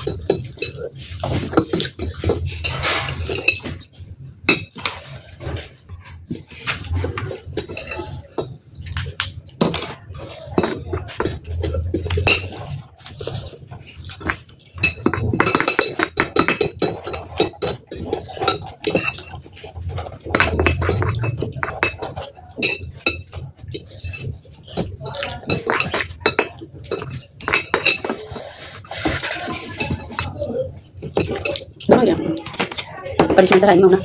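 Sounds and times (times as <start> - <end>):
chewing: 0.0 - 33.1
utensils clinking against glass bowls: 0.0 - 34.0.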